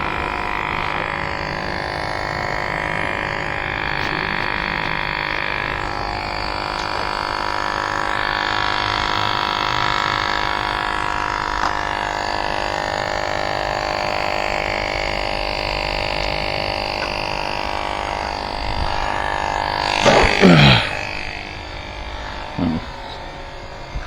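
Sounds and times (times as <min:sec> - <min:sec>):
electric tire inflator humming: 0:00.0 - 0:24.0.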